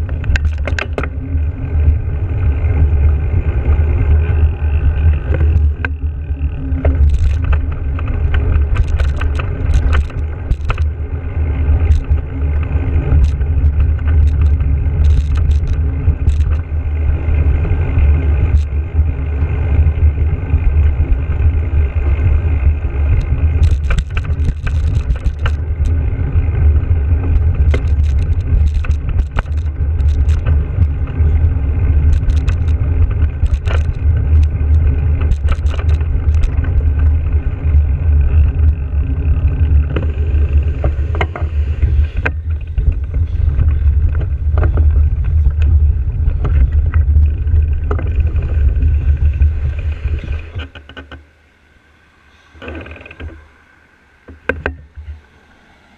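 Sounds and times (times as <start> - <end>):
bike clicks and rattles: 0.0 - 51.4, 52.6 - 53.4
wind and road rumble: 0.0 - 55.9.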